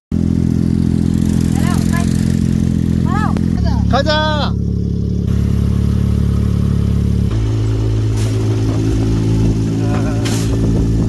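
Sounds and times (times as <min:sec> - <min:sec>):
dune buggy engine running: 0:00.1 - 0:11.0.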